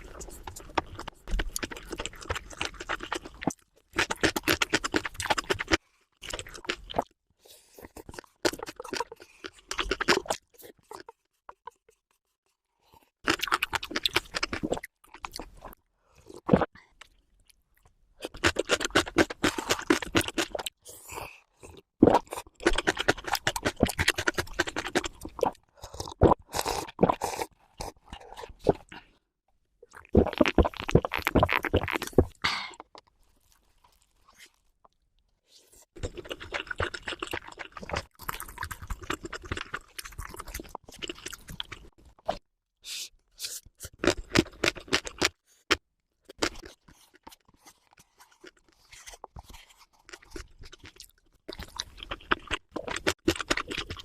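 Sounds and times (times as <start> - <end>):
person crunching and chewing food: 0.0 - 12.0, 13.0 - 29.1, 29.8 - 35.0, 35.9 - 42.4, 43.4 - 54.0.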